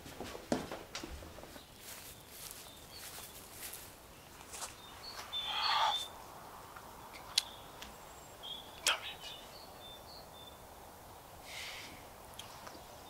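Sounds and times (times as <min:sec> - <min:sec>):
rustle: 0:00.0 - 0:13.0
small birds chirping: 0:01.5 - 0:13.0.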